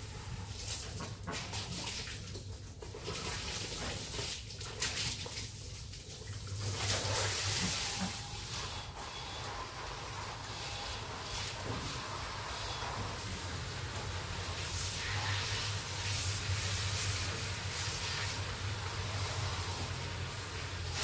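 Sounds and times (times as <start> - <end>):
running water splashing: 0.0 - 21.0.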